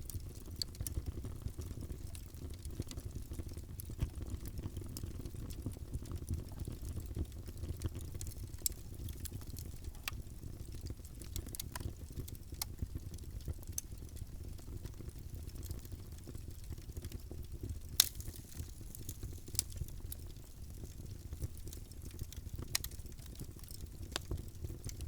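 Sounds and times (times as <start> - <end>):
low rumble of flames: 0.0 - 25.0
wood fire pops and snaps: 0.0 - 25.0.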